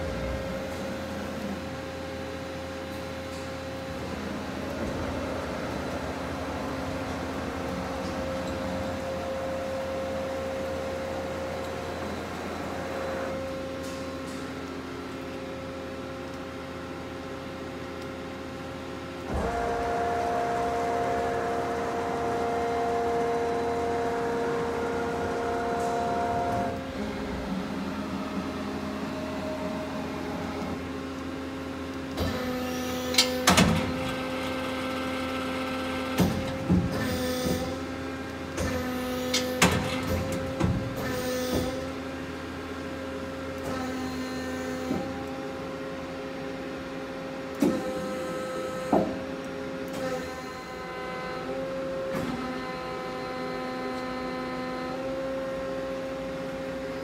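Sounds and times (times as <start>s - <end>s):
machine hum and whine: 0.0s - 57.0s.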